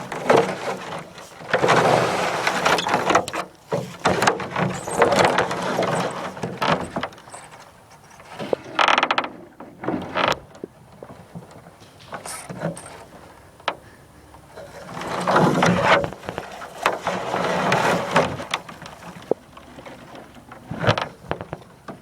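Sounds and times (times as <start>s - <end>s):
rustling and handling noise: 0.0s - 22.0s.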